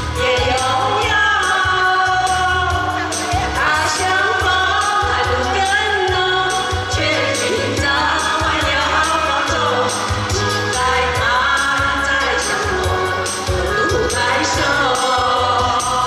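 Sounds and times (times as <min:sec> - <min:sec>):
instrumental backing with bass beat: 0:00.0 - 0:16.0
women singing into microphones: 0:00.0 - 0:16.0.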